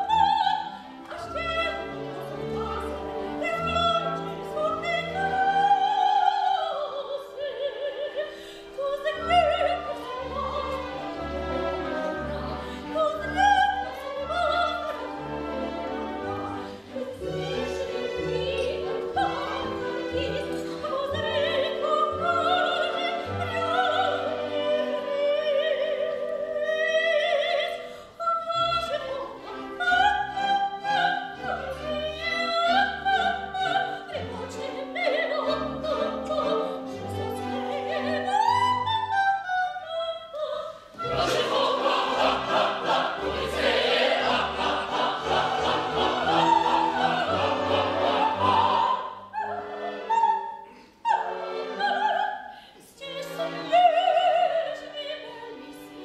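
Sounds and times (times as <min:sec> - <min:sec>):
orchestra playing: 0:00.0 - 0:39.6, 0:40.9 - 0:52.4.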